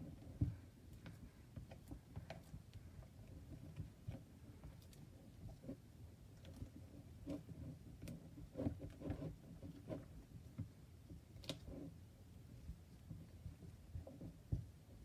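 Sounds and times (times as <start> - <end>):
spatula stirring slime: 0.0 - 15.0.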